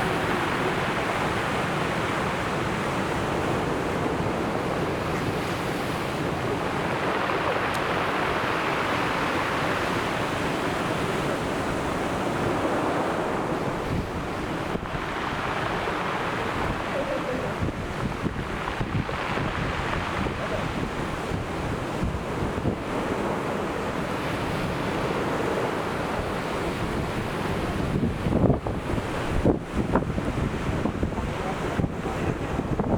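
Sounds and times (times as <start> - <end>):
waves washing on shore: 0.0 - 32.9.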